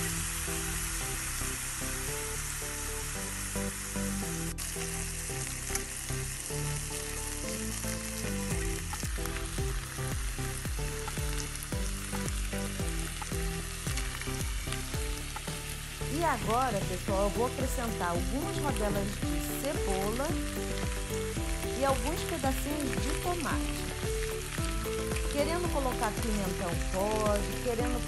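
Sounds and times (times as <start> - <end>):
steaks sizzling in a frying pan: 0.0 - 28.0.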